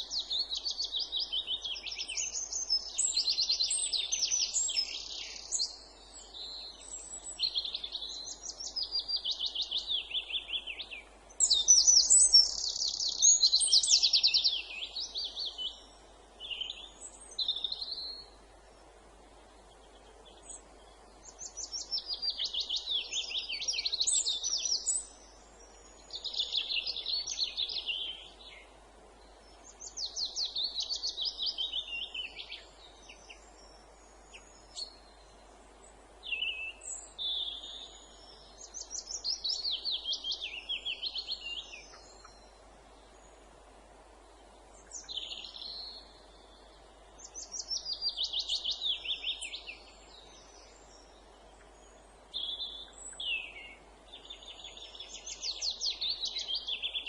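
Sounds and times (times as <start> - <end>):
faint background hiss: 0.0 - 57.0
songbirds singing: 0.0 - 57.0.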